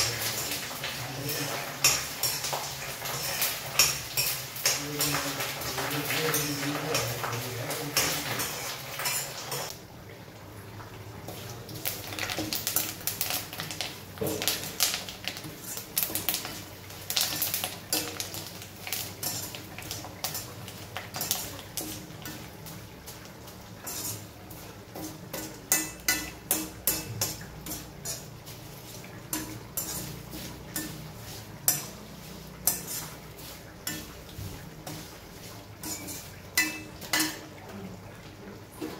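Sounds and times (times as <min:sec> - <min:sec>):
metal spatula scraping a pan: 0:00.0 - 0:09.7, 0:14.4 - 0:37.5
leaves frying in oil: 0:00.0 - 0:38.9.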